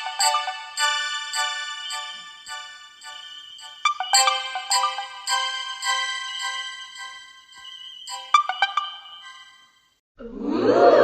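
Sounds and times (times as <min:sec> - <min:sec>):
phone ringtone notes: 0:00.0 - 0:09.8.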